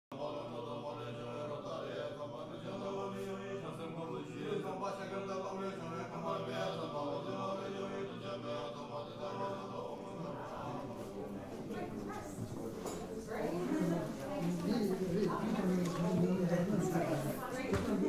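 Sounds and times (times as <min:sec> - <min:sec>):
monks chanting in low voices: 0:00.1 - 0:18.0.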